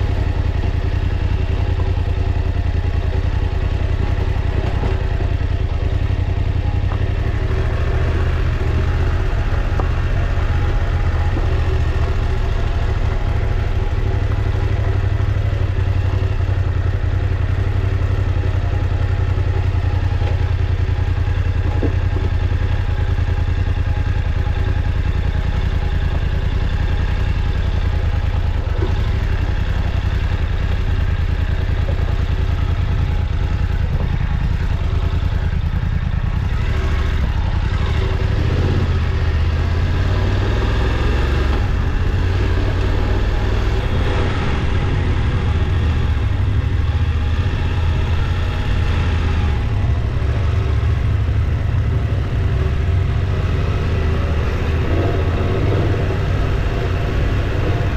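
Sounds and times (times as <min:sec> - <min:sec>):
motorcycle engine droning: 0:00.0 - 0:57.9.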